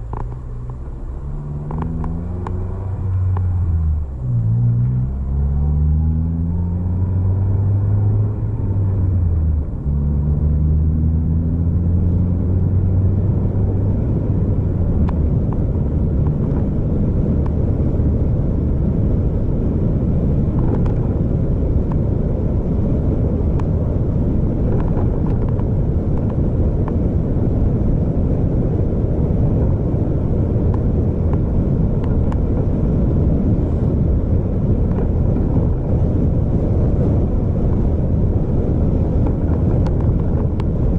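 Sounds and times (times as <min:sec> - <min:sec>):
vehicle engine accelerating: 0:00.0 - 0:40.9.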